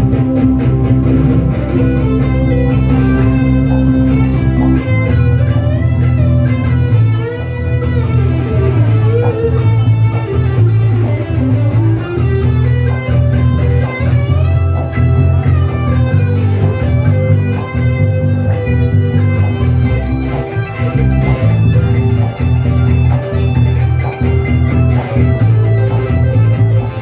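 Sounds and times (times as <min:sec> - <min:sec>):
bass guitar line: 0:00.0 - 0:27.0
live band with electric guitars: 0:00.0 - 0:27.0.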